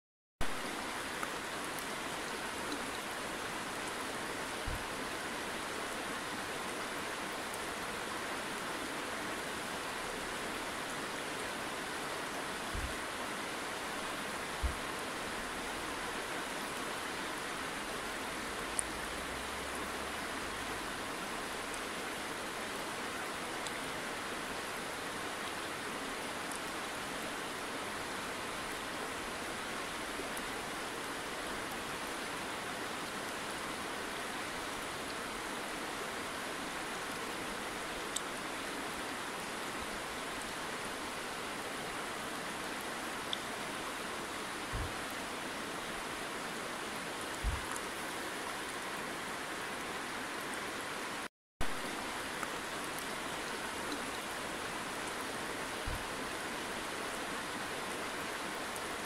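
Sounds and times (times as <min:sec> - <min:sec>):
river babbling over stones: 0:00.5 - 0:59.0.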